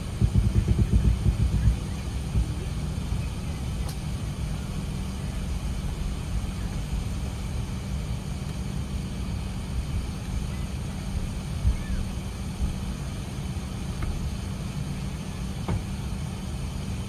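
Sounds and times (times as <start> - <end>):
aircraft cabin drone: 0.0 - 17.0.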